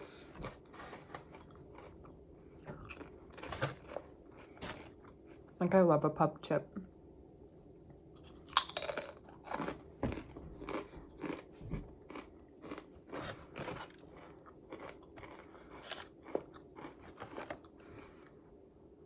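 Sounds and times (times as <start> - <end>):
crunchy food chewing: 0.0 - 5.6, 7.7 - 18.7.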